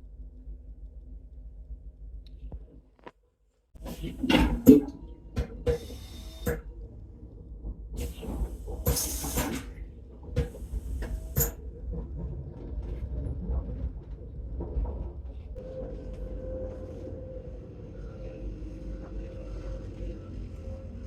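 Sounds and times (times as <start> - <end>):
train carriage rumble: 3.8 - 21.0.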